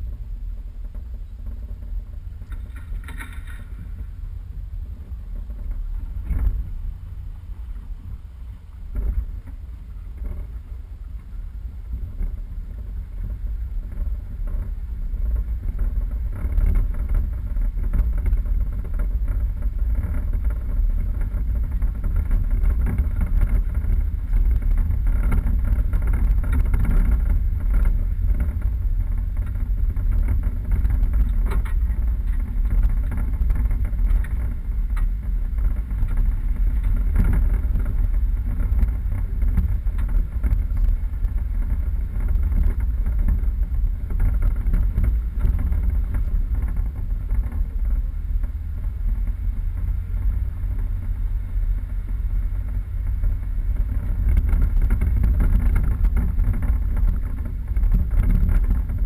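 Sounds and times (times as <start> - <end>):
off-road vehicle rumbling: 0.0 - 59.0.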